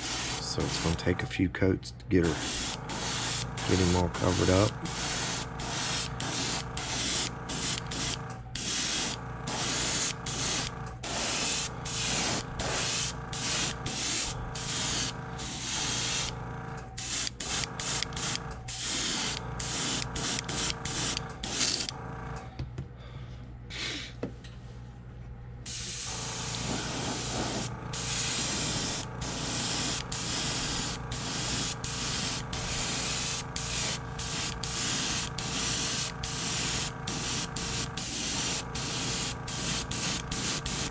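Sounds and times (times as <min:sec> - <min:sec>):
airbrush hissing bursts: 0:00.0 - 0:01.1, 0:02.2 - 0:16.4, 0:17.0 - 0:21.9, 0:25.7 - 0:40.9
steady hum: 0:00.0 - 0:40.9.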